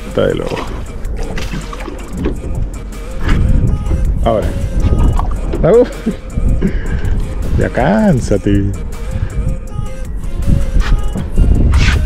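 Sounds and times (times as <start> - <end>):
steady low rumble: 0.0 - 11.8
background music: 0.0 - 12.0.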